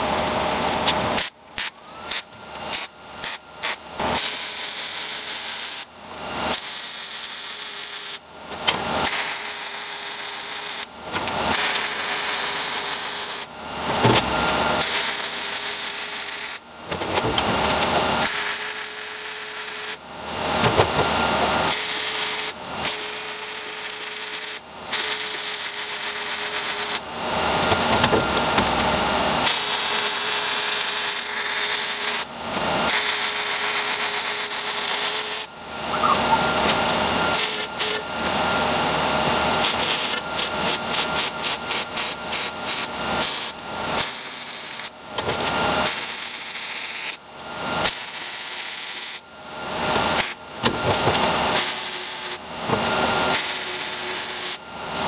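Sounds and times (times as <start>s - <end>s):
power tool grinding metal: 0.7s - 54.6s.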